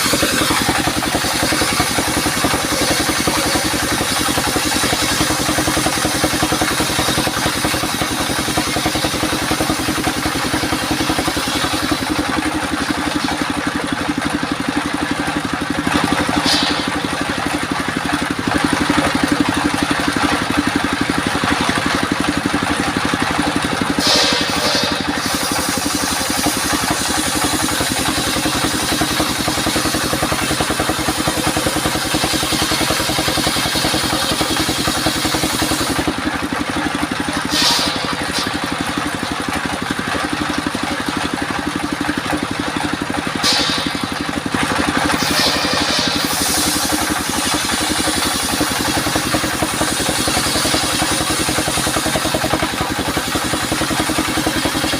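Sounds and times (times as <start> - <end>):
circular saw engine running: 0.0 - 54.9.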